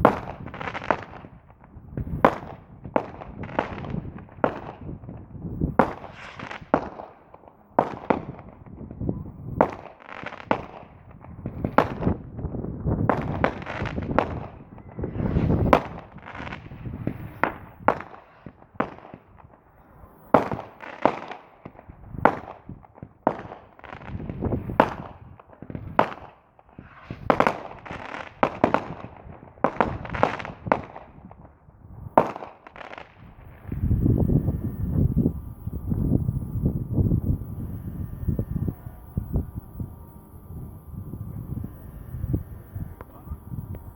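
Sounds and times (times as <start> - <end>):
fireworks exploding: 0.0 - 43.9.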